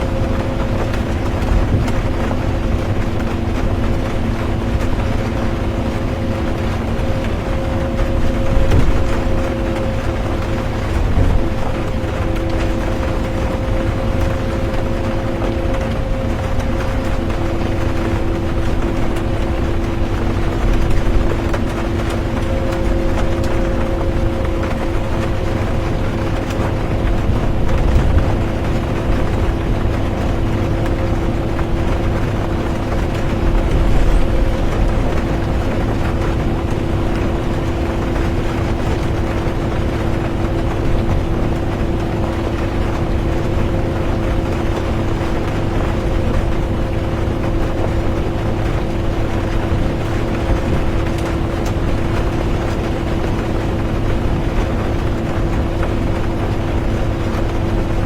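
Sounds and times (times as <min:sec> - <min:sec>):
road rumble: 0:00.0 - 0:56.9
bus engine drone: 0:00.0 - 0:58.0.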